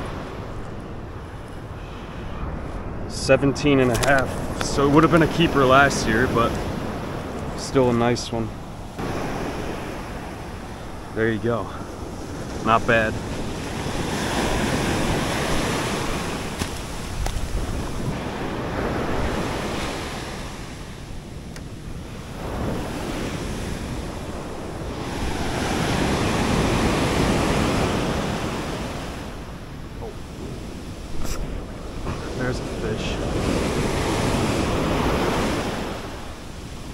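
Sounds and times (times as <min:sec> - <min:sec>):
ocean surf breaking: 0:00.0 - 0:36.9
wind buffeting microphone: 0:00.0 - 0:36.9.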